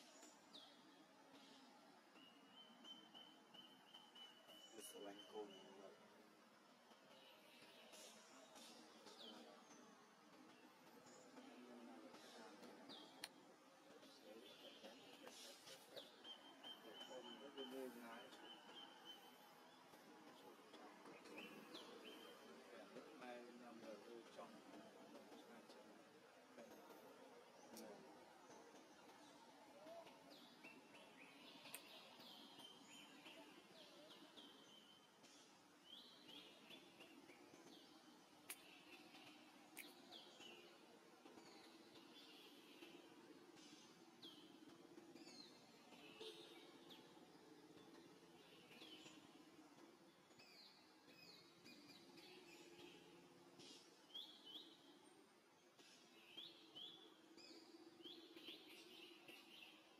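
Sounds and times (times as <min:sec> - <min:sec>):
faint bird chirps: 0:00.0 - 0:06.2, 0:07.1 - 0:25.8, 0:26.6 - 0:59.9
faint low hum: 0:00.0 - 0:59.9
faint outdoor hiss: 0:00.0 - 0:59.9.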